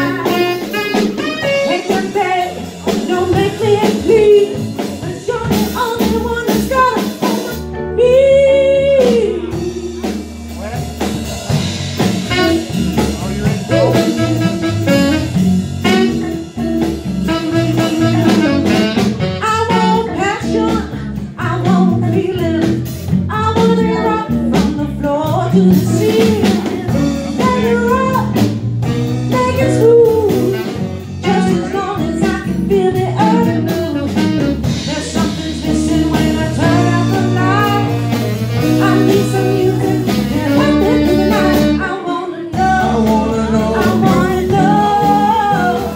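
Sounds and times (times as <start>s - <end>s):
wavering saxophone lead: 0.0s - 22.7s, 23.3s - 45.9s
drum kit: 0.0s - 45.9s
electric bass: 0.0s - 45.9s
electric guitar: 0.0s - 45.9s.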